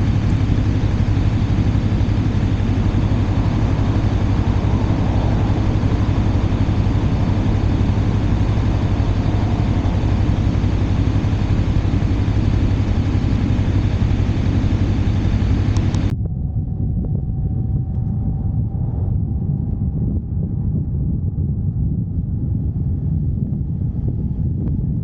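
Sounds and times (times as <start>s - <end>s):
faint steady whine: 0.0s - 25.0s
motorcycle engine droning: 0.0s - 25.0s
wind noise on microphone: 0.0s - 25.0s.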